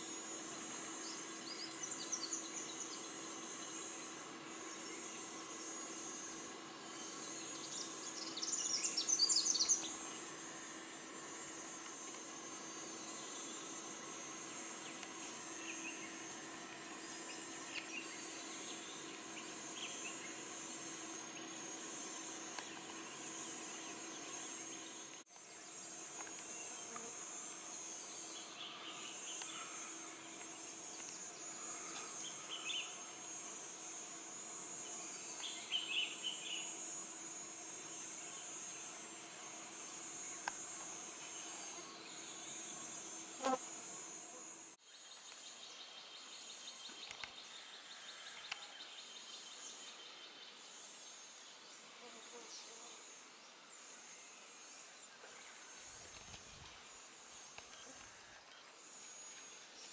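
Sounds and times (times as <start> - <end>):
insects chirring: 0.0 - 52.4, 53.1 - 59.9.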